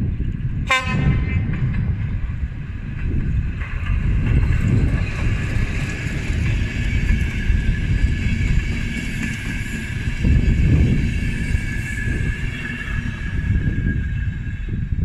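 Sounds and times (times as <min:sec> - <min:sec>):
train rumbling past: 0:00.0 - 0:15.0
wind buffeting microphone: 0:00.0 - 0:15.0.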